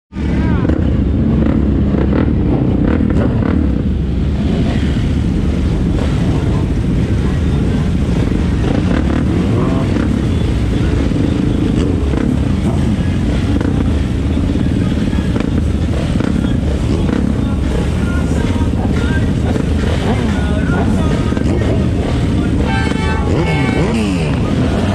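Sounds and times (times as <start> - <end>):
motorcycle engines running: 0.1 - 24.9.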